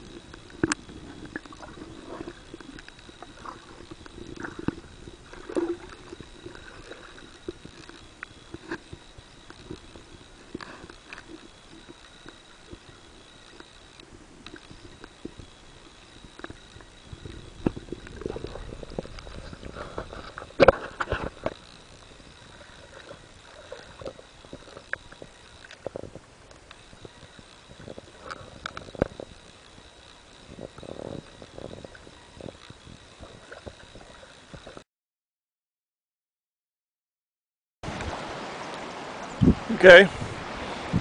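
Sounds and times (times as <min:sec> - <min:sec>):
muffled underwater clicks and knocks: 0:00.0 - 0:34.8.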